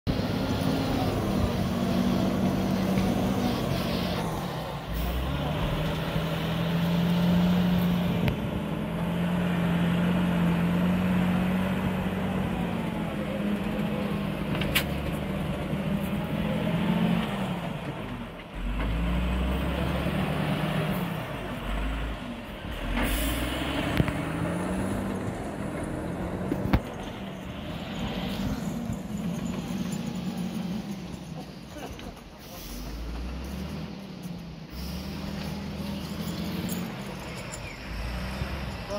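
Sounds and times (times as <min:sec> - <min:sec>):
diesel engine revving under load: 0:00.1 - 0:38.9.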